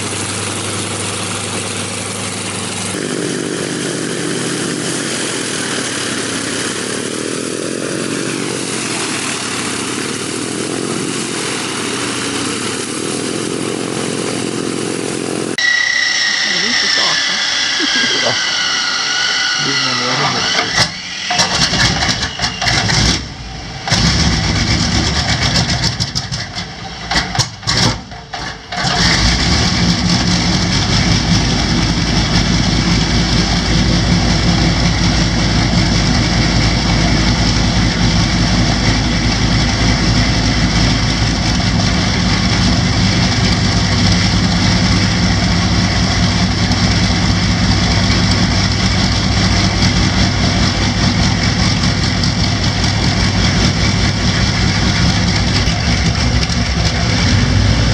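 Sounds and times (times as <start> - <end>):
propeller aircraft engine starting: 0.0 - 57.9.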